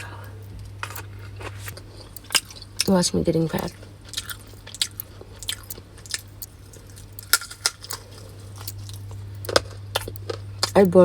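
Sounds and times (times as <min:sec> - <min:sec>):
low hum: 0:00.0 - 0:11.0
person chewing food: 0:00.0 - 0:11.0.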